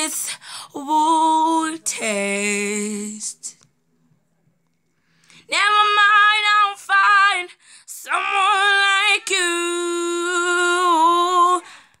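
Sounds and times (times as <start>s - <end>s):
woman singing unaccompanied: 0.0s - 3.6s, 5.5s - 12.0s.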